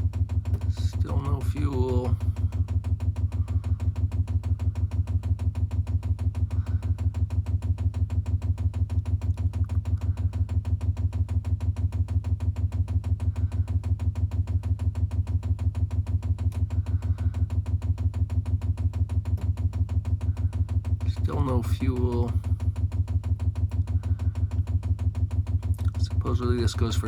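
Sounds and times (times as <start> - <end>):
fuel pump clicking: 0.0 - 27.0.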